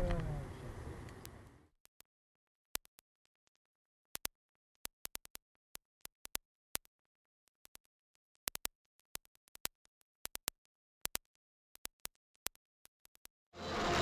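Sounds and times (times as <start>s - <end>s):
sharp clicks and pops: 1.0s - 2.1s, 2.7s - 13.4s.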